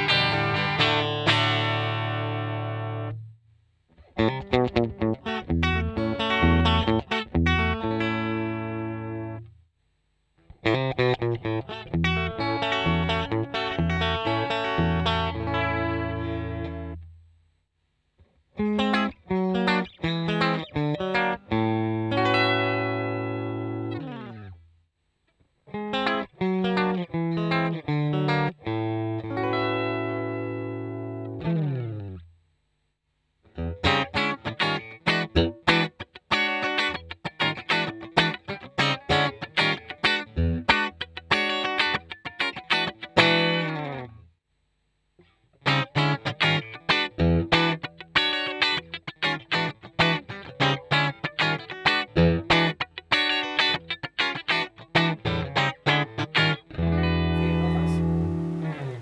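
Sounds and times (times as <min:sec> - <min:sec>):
clean electric guitar: 0:00.0 - 0:09.6, 0:10.5 - 0:17.1, 0:18.5 - 0:24.6, 0:25.7 - 0:32.3, 0:33.5 - 0:44.3, 0:45.2 - 0:59.0.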